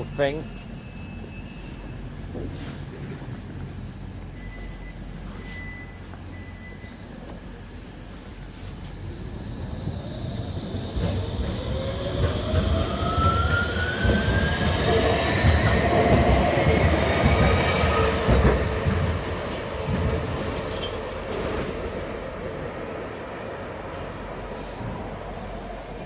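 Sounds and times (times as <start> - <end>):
rail vehicle accelerating: 0.0 - 26.0.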